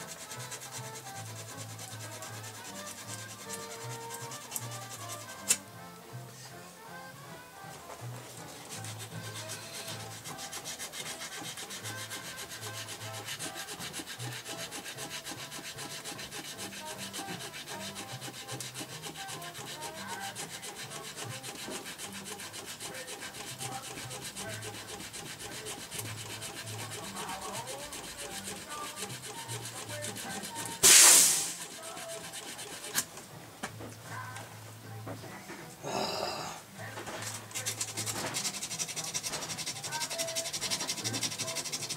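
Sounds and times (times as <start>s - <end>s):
sandpaper rubbing: 0.0s - 5.6s, 8.2s - 33.1s, 37.2s - 41.9s.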